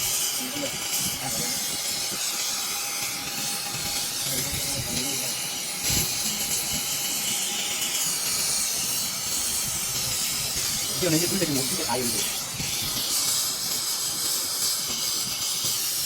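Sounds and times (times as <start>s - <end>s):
welding torch flame hissing: 0.0s - 16.0s.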